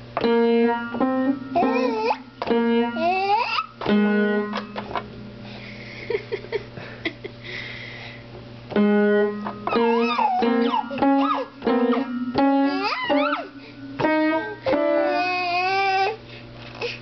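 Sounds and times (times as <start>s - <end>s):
piano keys struck randomly: 0.0s - 6.3s, 8.6s - 16.1s.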